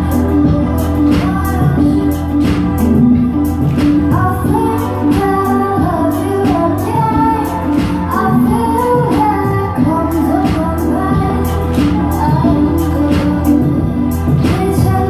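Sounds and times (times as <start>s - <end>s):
instrumental pop accompaniment: 0.0s - 15.0s
woman singing: 0.0s - 15.0s.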